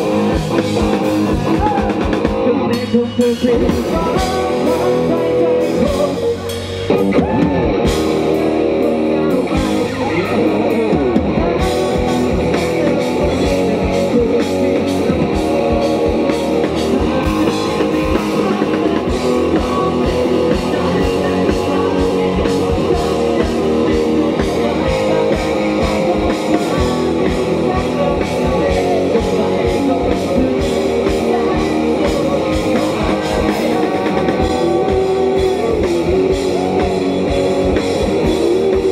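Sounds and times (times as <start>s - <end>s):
drum kit: 0.0s - 38.9s
electric guitar lead: 0.0s - 38.9s.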